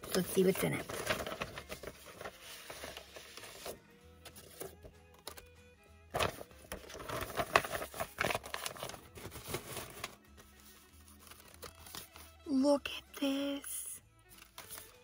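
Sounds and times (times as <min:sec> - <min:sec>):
paper rustling and crinkling: 0:00.0 - 0:05.4, 0:06.1 - 0:12.4, 0:14.3 - 0:15.0.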